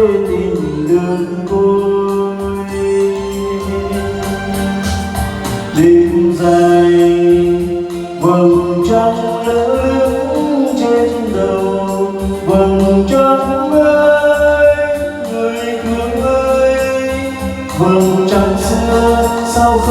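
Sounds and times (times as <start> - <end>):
ballad with singing voice: 0.0 - 19.9.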